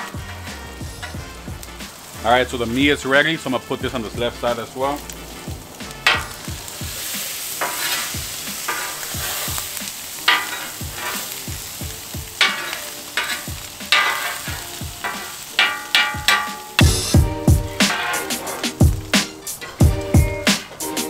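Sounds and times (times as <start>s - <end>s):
meat sizzling: 0.0s - 21.0s
metal spatula scraping griddle: 0.0s - 21.0s.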